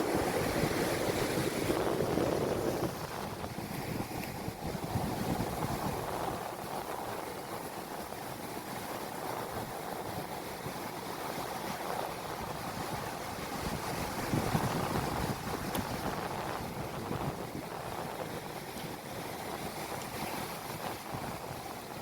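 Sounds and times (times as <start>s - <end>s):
ocean waves washing ashore: 0.0s - 22.0s
wind buffeting microphone: 0.0s - 22.0s.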